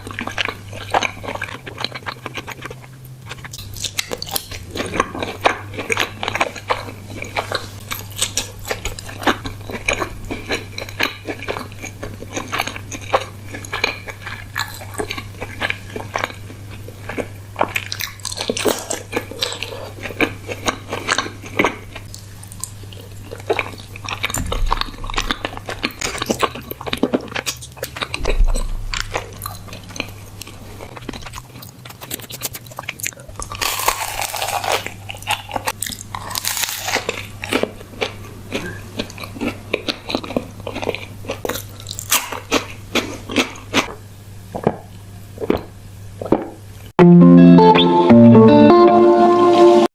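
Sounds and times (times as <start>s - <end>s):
steady low hum: 0.0s - 41.9s
person biting and chewing food: 0.0s - 46.6s.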